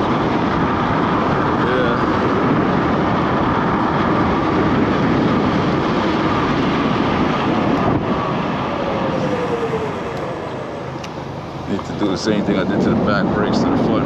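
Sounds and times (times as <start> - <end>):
electric scooter whine: 0.0 - 14.0
road noise: 0.0 - 14.0
rushing wind: 0.0 - 14.0.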